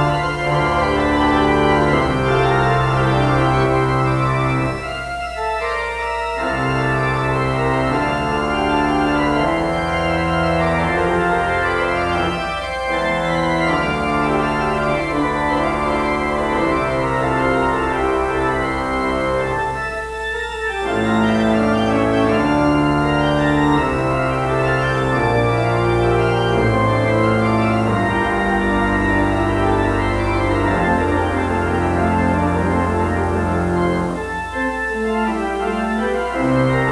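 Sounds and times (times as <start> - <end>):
organ playing full chords: 0.0 - 36.9.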